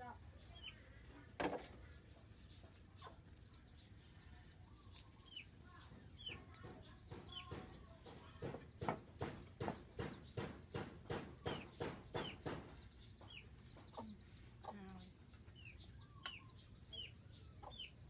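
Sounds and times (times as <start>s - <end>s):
chickens clucking: 0.4s - 18.0s.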